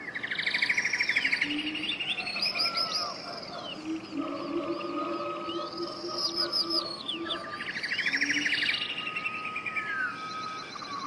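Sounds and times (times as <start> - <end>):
songbirds singing and chirping: 0.0 - 11.0.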